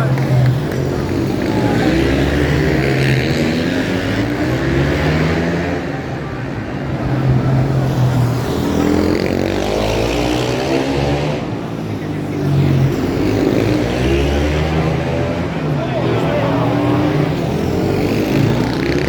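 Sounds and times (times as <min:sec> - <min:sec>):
motorcycles revving past: 0:00.0 - 0:19.0.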